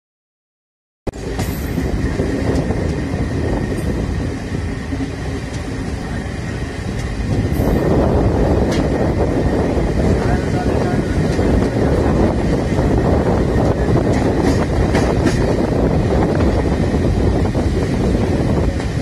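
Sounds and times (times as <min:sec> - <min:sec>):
train rumbling: 0:01.1 - 0:19.0.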